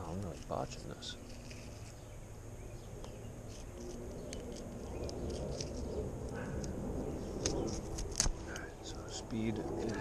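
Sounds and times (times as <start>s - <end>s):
camera rubbing low rumble: 0.0s - 10.0s.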